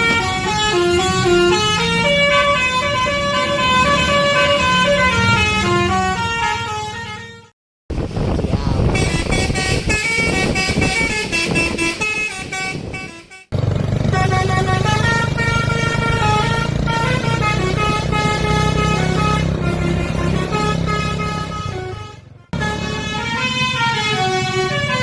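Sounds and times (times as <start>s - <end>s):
musical bus horn tune: 0.0s - 7.5s, 8.8s - 25.0s.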